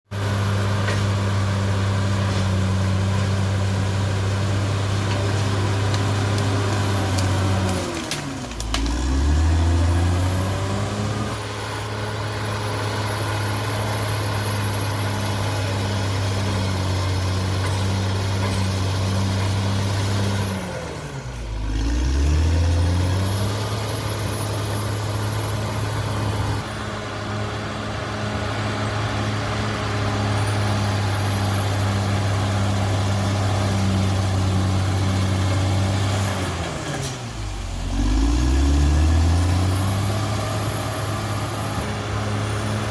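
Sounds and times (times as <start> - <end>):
bulldozer diesel engine under load: 0.1 - 42.9.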